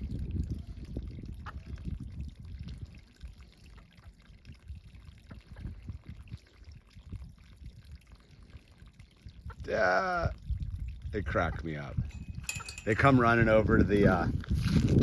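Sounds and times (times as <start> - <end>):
hose water trickling and splashing: 0.0 - 15.0.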